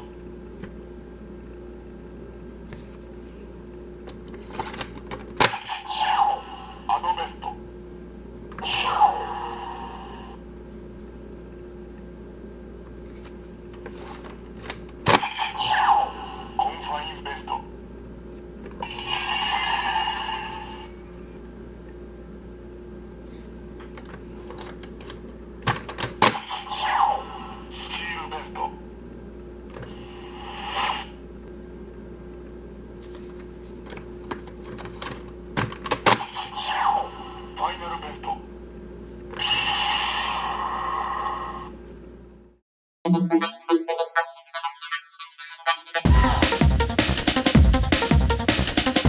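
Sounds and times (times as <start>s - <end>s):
faint steady hum: 0.0s - 42.6s.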